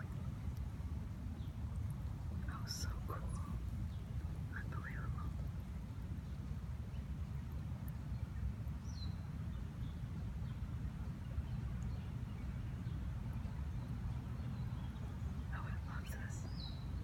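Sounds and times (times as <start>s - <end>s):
faint bird chirp: 0.0s - 5.6s, 6.2s - 17.0s.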